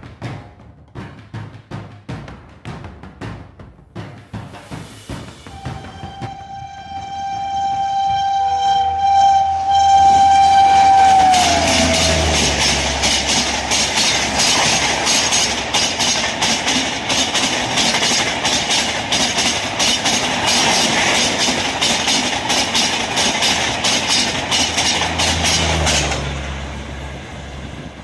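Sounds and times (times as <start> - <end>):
train wheels rushing on rails: 4.0 - 28.0
wheels clicking over rail joints: 4.6 - 28.0.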